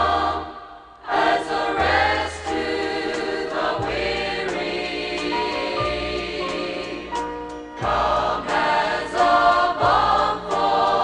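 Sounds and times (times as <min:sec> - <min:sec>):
choir singing gospel: 0:00.0 - 0:11.0
instrumental backing with bass: 0:01.2 - 0:11.0.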